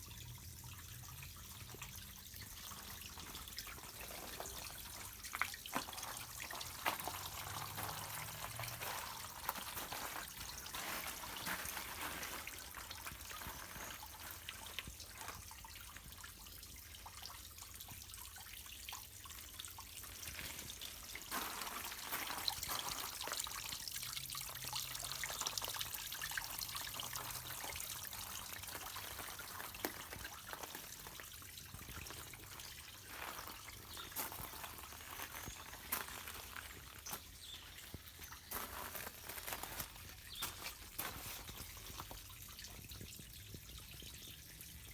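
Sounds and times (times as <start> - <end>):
water drips and splashes: 0.0 - 44.9
water trickling down waterfall: 0.0 - 44.9.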